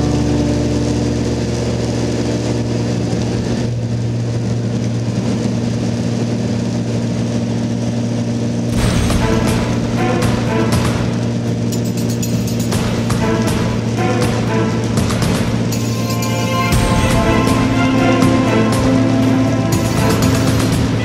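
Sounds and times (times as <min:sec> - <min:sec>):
broad noise: 0:00.0 - 0:21.0
engine droning: 0:00.0 - 0:21.0.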